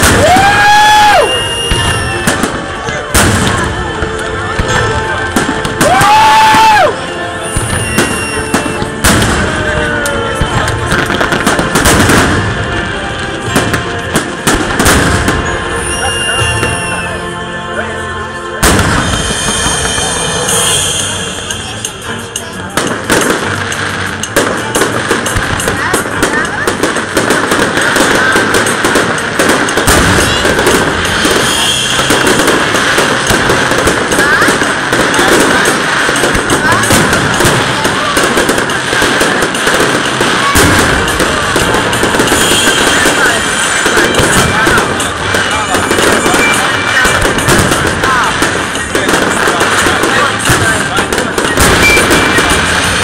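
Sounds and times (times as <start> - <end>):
firework shells bursting: 0.0 - 12.8, 18.6 - 53.0.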